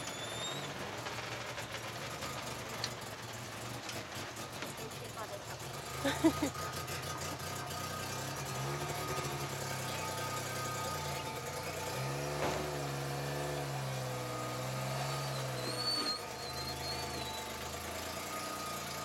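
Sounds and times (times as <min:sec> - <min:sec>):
rock crawler engine running: 0:00.0 - 0:19.0.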